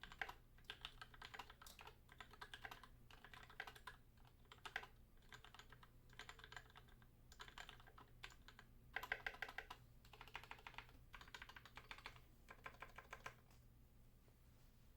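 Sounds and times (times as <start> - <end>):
mechanical keyboard typing: 0.0 - 13.5.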